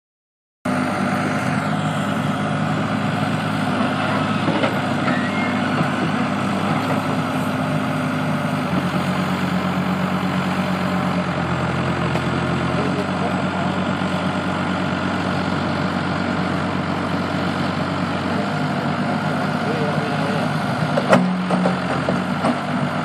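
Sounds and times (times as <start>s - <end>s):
diesel engine running: 0.7s - 23.0s.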